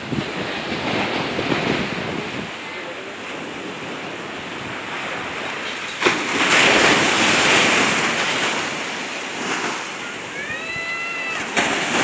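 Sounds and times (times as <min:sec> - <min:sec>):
sea waves washing onto shore: 0:00.0 - 0:12.0.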